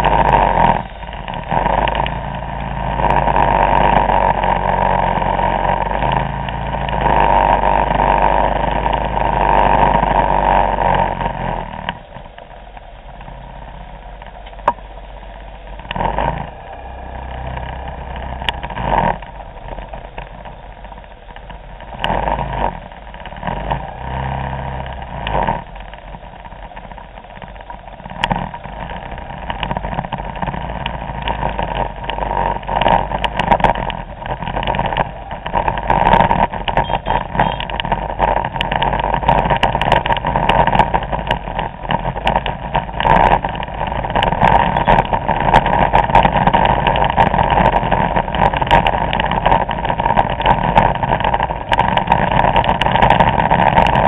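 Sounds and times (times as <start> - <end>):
scooter engines: 0.0 - 54.0.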